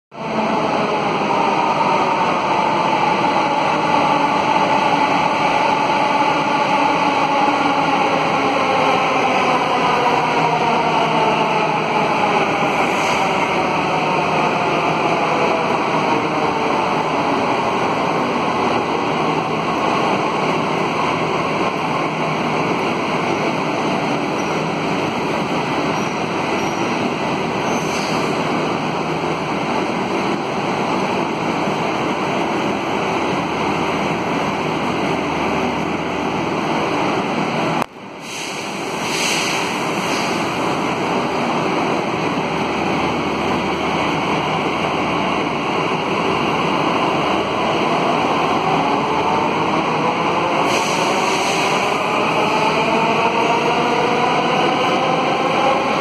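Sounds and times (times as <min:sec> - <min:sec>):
rushing platform and train noise: 0:00.1 - 0:56.0.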